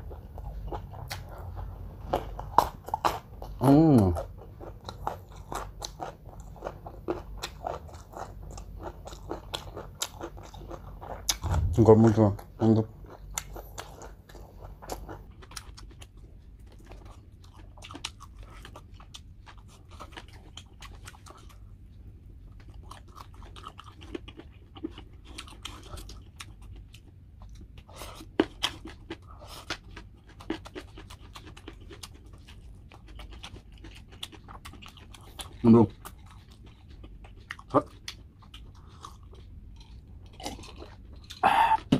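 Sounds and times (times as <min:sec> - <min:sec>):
chewing and crunching: 0:00.0 - 0:41.9.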